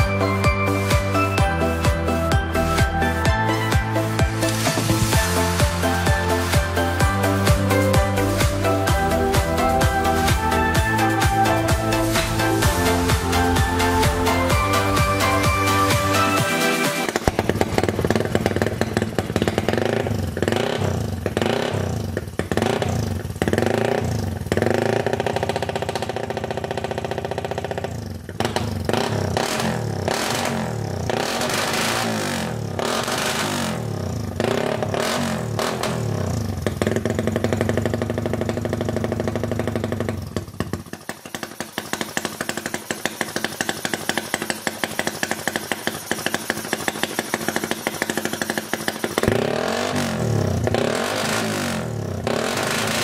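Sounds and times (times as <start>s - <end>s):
scooter engine revving: 0.0s - 53.0s.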